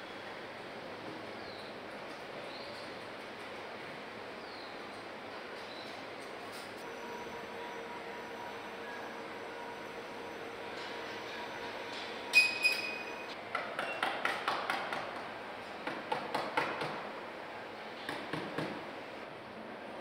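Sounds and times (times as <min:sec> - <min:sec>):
factory background noise: 0:00.0 - 0:20.0.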